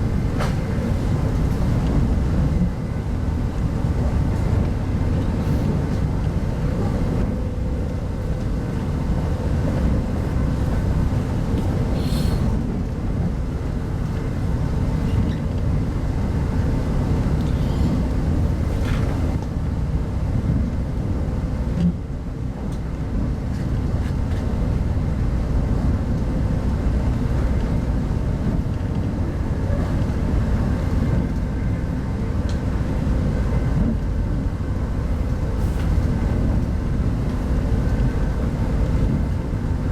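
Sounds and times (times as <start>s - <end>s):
train rumble from inside coach: 0.0s - 39.9s.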